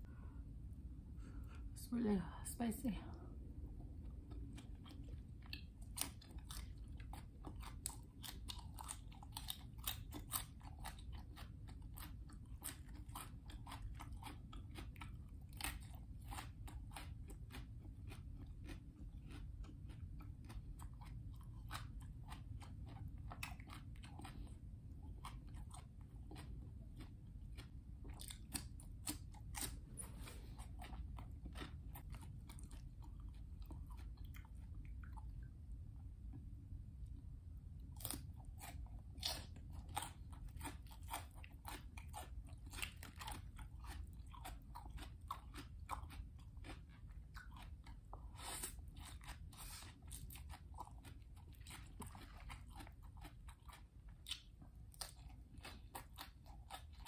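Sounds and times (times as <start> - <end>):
crunchy chewing of vegetables: 3.2 - 57.0.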